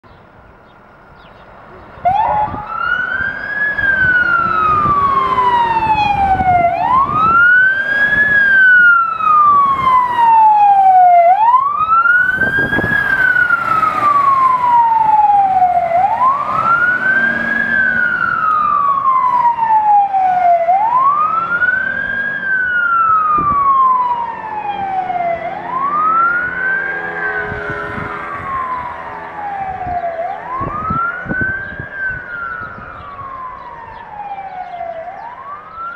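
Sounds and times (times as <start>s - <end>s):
fire engine siren wailing: 1.7s - 35.9s.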